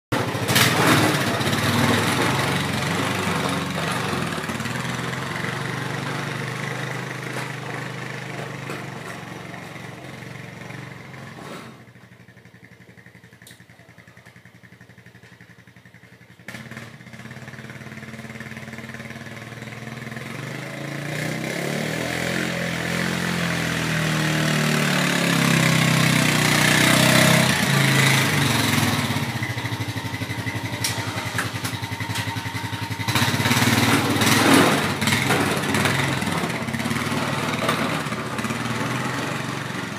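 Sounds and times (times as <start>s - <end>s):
small engine running: 0.2s - 39.9s.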